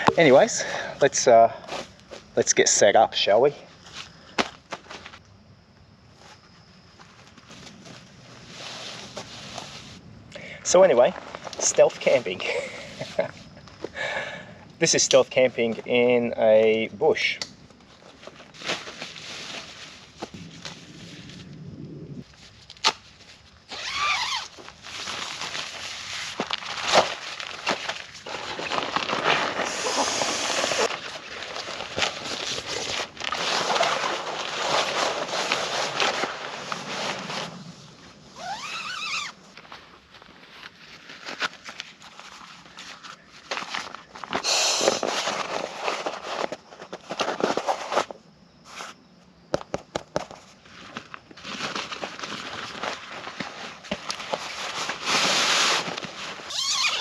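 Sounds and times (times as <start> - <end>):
camping gear rustling and clicking: 3.7 - 5.3, 6.1 - 14.2, 17.4 - 49.0, 49.6 - 57.0.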